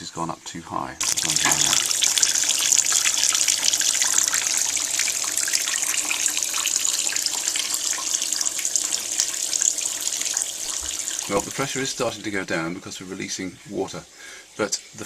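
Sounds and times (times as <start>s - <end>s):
water running into a bucket: 1.0s - 15.0s.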